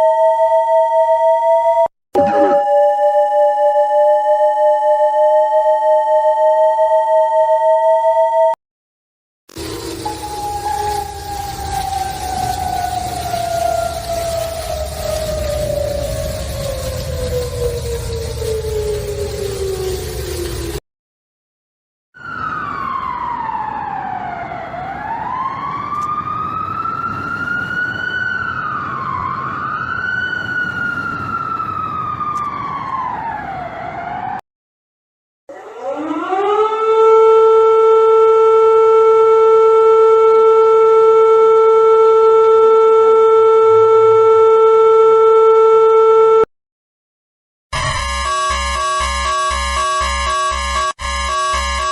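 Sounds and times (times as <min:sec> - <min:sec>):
siren holding steady tone: 0:00.0 - 0:08.6, 0:09.5 - 0:20.8, 0:22.2 - 0:34.4, 0:35.5 - 0:46.5, 0:47.7 - 0:51.9
warning siren wailing: 0:00.0 - 0:08.6, 0:09.5 - 0:20.8, 0:22.2 - 0:34.4, 0:35.5 - 0:46.5, 0:47.7 - 0:51.9.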